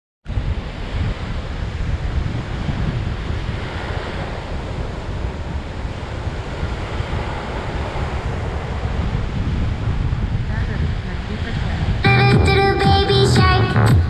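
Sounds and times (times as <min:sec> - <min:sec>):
ocean surf: 0:00.3 - 0:13.7
wind buffeting microphone: 0:00.3 - 0:14.0.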